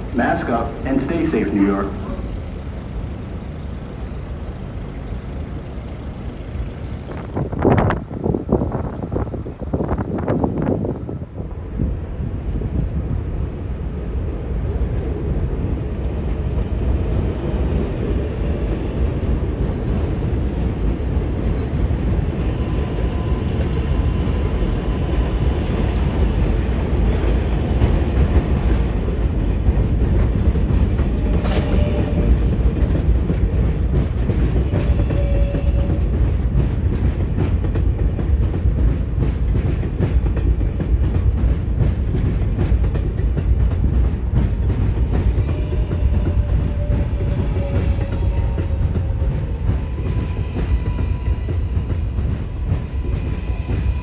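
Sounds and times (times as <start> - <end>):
subway train wheels rumbling on rail: 0.0 - 54.0.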